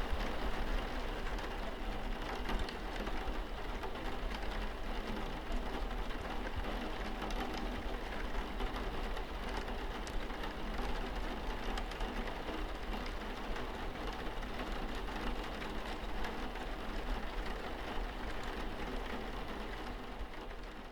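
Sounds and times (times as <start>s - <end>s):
rain on a window pane: 0.0s - 20.9s.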